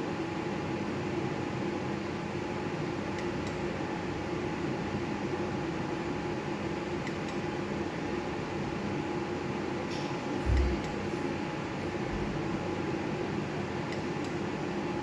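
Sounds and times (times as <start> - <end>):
fan-like hum with held tones: 0.0 - 15.0.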